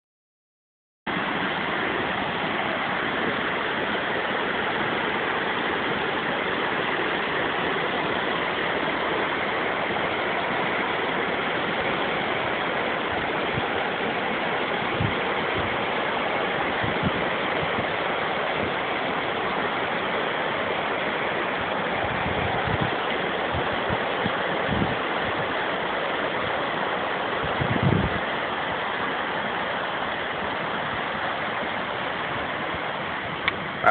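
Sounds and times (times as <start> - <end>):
flowing water rushing: 1.1 - 33.9.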